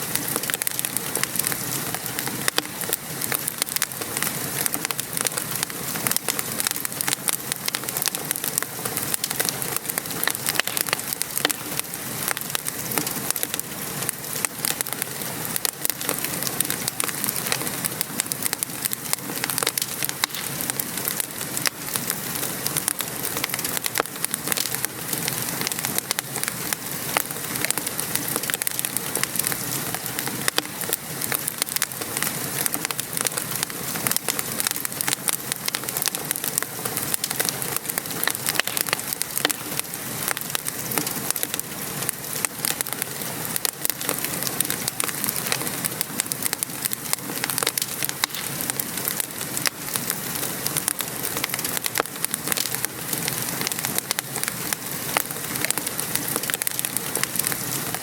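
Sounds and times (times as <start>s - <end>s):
gentle rain: 0.0s - 58.0s
wood fire crackling: 0.0s - 58.0s.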